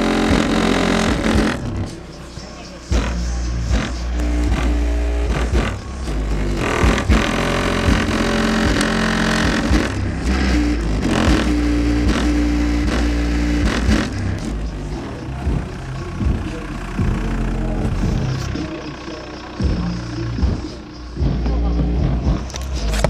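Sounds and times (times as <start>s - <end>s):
car body panels buzzing and rattling: 0.0s - 18.7s
bass-heavy music through subwoofer: 0.0s - 23.0s.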